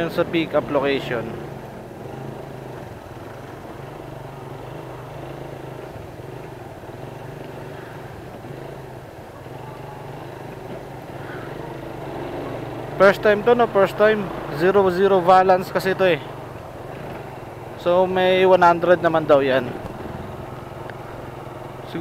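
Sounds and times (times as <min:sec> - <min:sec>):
motorcycle engine humming: 0:00.0 - 0:22.0
road noise: 0:00.0 - 0:22.0.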